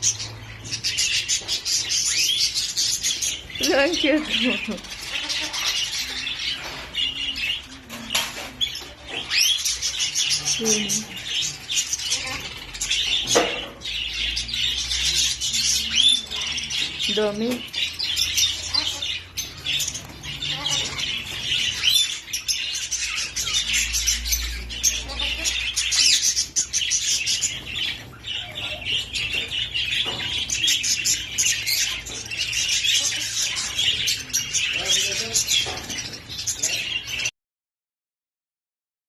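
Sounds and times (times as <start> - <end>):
parrots chattering: 0.0 - 37.3.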